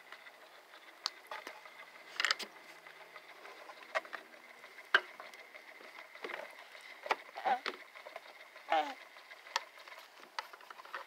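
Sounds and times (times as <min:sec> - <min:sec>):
faint motor whine: 0:00.0 - 0:11.0.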